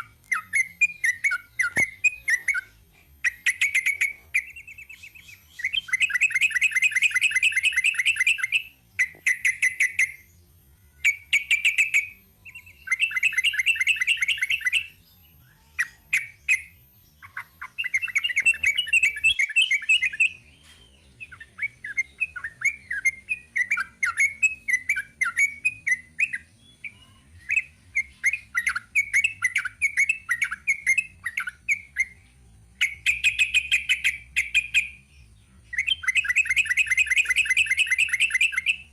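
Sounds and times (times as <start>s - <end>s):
bulbul singing rolling song: 0.0s - 38.9s.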